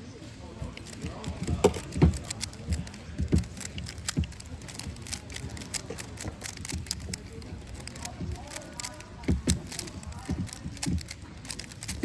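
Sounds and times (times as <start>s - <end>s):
plastic puzzle cube clicking: 0.7s - 12.0s.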